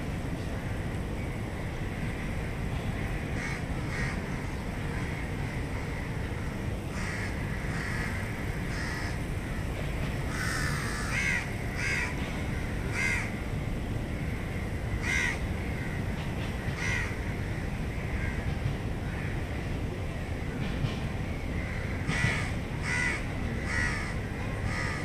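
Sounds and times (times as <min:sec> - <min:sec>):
low city rumble: 0:00.0 - 0:25.0
birds calling: 0:00.3 - 0:25.0.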